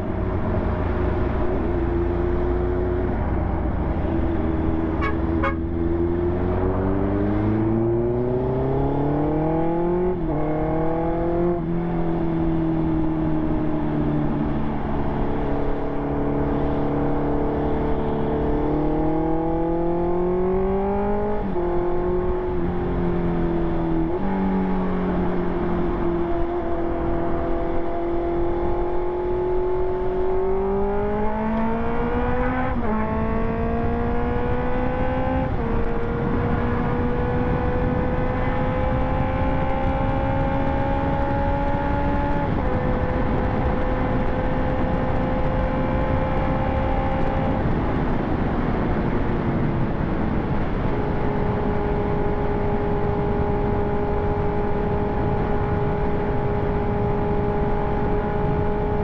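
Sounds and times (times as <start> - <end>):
motorcycle engine accelerating: 0.0 - 59.0
road and wind noise: 0.0 - 59.0.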